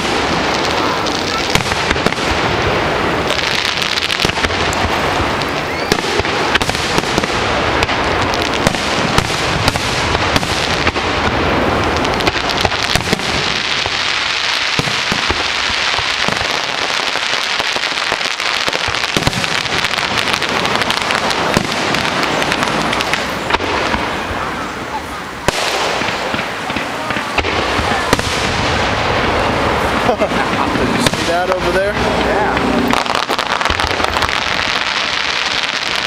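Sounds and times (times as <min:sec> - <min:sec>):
fireworks bangs: 0:00.0 - 0:36.0
fireworks crackling: 0:00.0 - 0:36.0.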